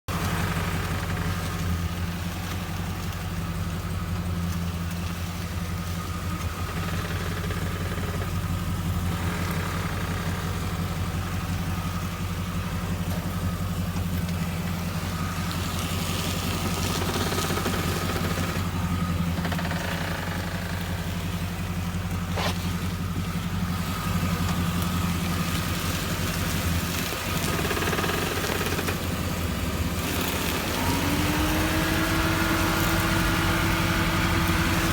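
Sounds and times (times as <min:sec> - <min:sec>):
car engine idling: 0:00.0 - 0:34.9
steering grinding noise: 0:00.1 - 0:34.9.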